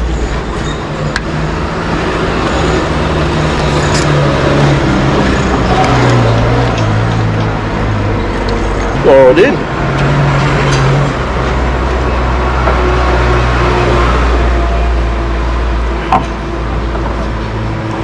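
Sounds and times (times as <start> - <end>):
road traffic: 0.0 - 18.0
vehicle engine humming: 0.0 - 18.0.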